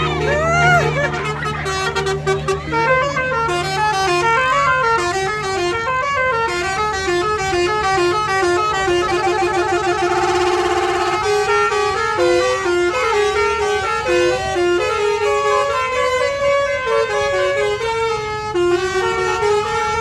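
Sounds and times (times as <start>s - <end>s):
bus horn playing melody: 0.0s - 20.0s.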